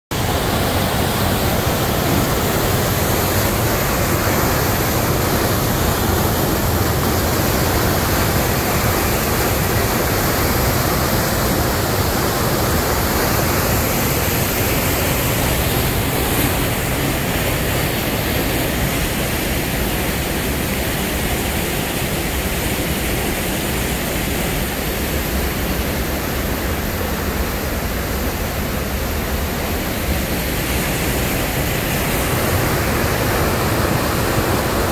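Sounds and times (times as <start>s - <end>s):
water rushing over rocks: 0.1s - 34.9s.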